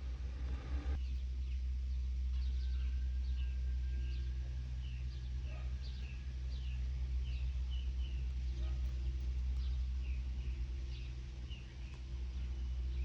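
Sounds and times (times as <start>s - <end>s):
steady low hum: 0.0s - 13.0s
swallows chirping: 0.9s - 13.0s.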